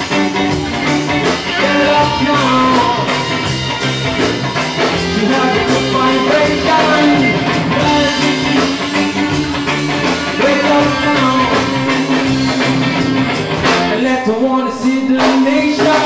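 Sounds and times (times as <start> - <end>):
bass guitar: 0.0 - 16.0
drum kit: 0.0 - 16.0
electric guitars: 0.0 - 16.0.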